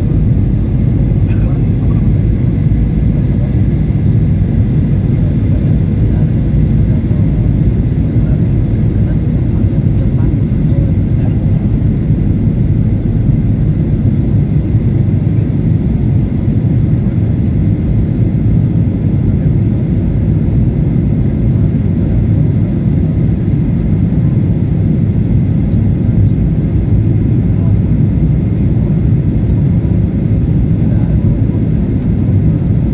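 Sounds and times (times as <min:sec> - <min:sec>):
jet airliner cabin rumble: 0:00.0 - 0:32.9.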